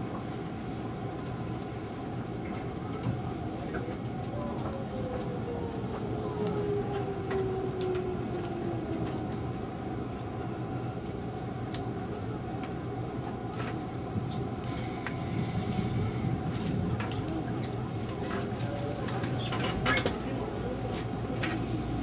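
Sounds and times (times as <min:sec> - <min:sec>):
electric train inverter whine: 0:00.0 - 0:22.0
rumble of slowing train: 0:00.0 - 0:22.0.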